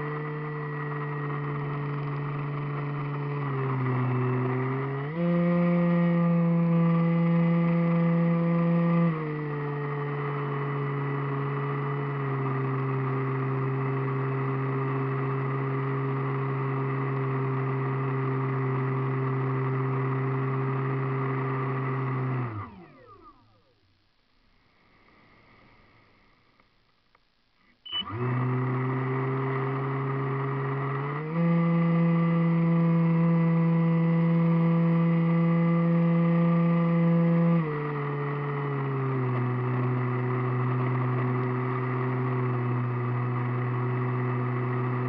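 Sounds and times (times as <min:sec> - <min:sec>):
model airplane motor and propeller: 0:00.0 - 0:23.7, 0:27.9 - 0:45.0.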